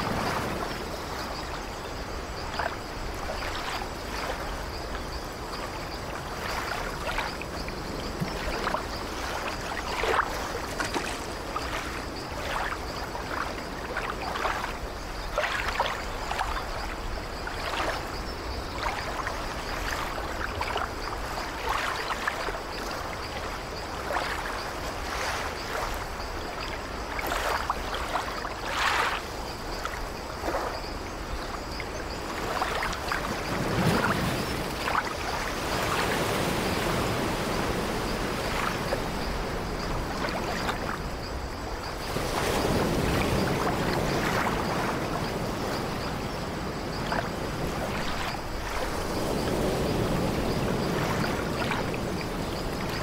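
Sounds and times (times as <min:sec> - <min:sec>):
sea waves breaking: 0:00.0 - 0:53.0
short water splashes: 0:02.4 - 0:53.0.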